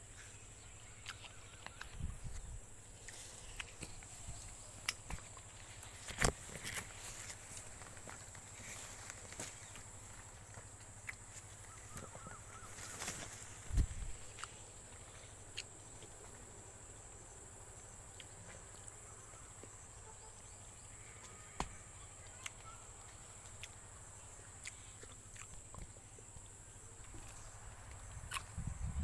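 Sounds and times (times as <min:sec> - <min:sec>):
insect drone: 0:00.0 - 0:29.0.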